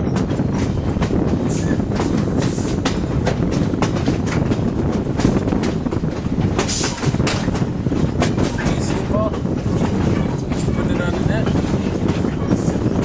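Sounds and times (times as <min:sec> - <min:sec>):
train cars rumbling: 0:00.0 - 0:13.0
wheels clicking over rail joints: 0:00.0 - 0:13.0.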